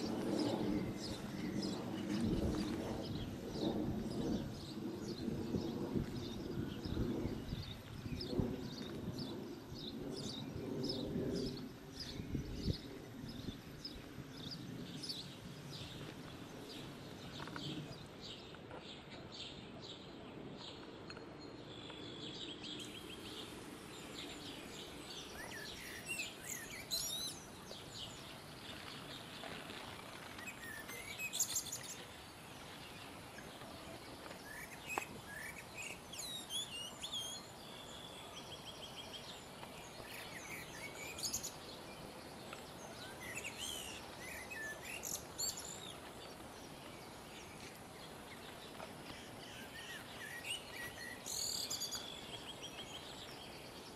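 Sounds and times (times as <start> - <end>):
outdoor background hiss: 0.0 - 53.9
songbirds singing: 0.0 - 53.9.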